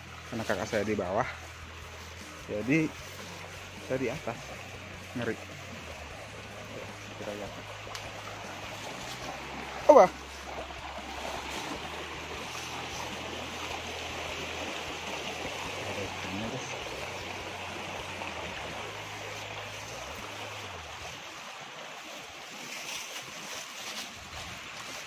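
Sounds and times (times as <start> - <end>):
low steady hum: 0.0 - 21.6
river rushing: 0.0 - 25.0.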